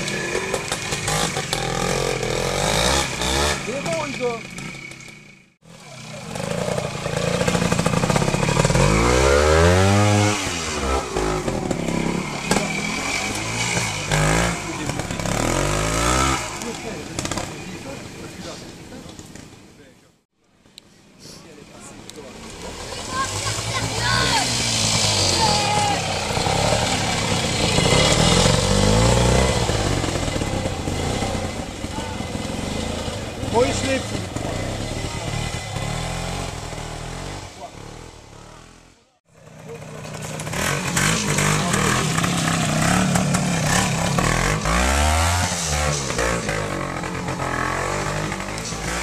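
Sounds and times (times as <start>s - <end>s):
motorcycle engine revving: 0.0s - 19.6s, 22.1s - 49.0s.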